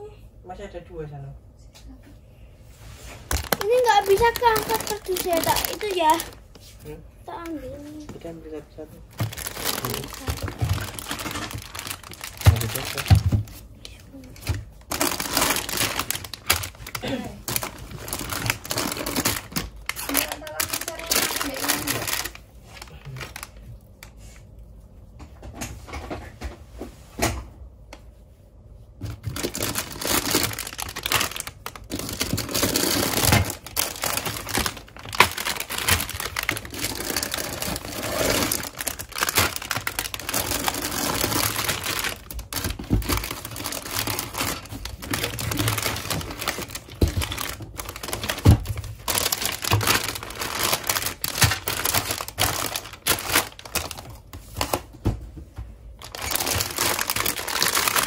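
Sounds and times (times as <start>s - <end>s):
plastic bags crinkling: 3.2s - 24.1s, 29.0s - 55.0s, 55.8s - 58.0s.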